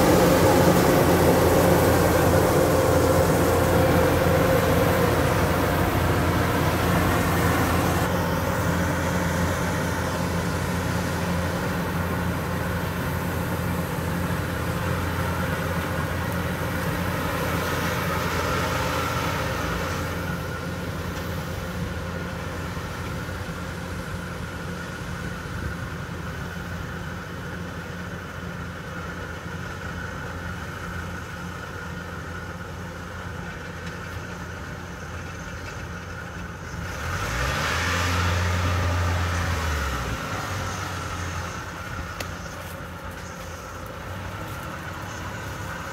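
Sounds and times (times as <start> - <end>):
combine harvester engine drone: 0.0 - 45.9.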